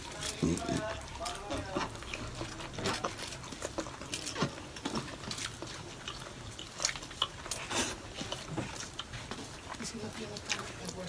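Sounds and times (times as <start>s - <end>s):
people chewing and lip smacking: 0.0s - 11.0s.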